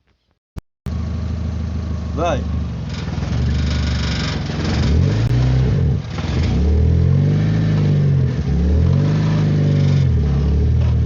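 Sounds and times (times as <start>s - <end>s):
car engine revving: 0.9s - 11.0s.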